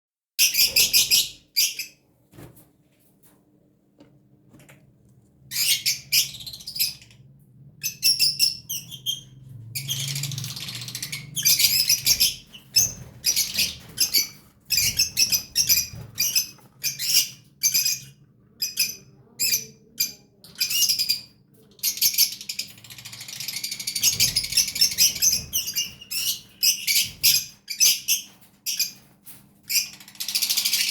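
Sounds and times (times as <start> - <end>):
bird chicks chirping: 0.4 - 2.5, 5.5 - 30.9.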